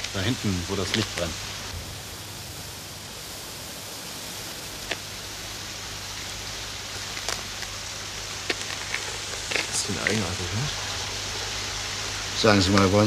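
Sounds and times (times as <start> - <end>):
low hum: 0.0 - 12.5
steady hiss: 0.0 - 13.0.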